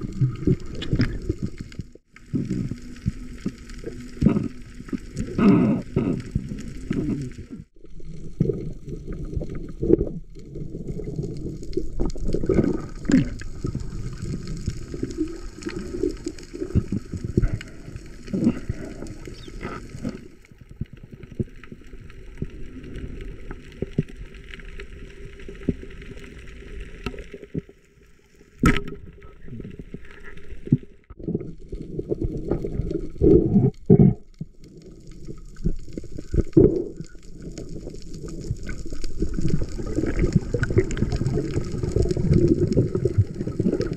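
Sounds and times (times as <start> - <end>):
water gurgling and sloshing: 0.0 - 43.9.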